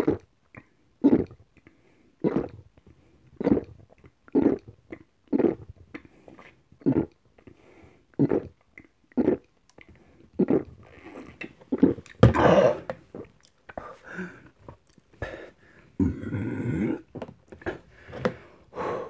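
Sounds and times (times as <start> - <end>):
mouth and throat sounds: 0.0 - 17.7.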